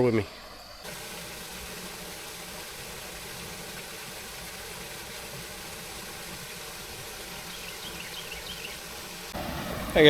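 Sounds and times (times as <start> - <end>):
waterfall rushing: 0.9 - 10.0.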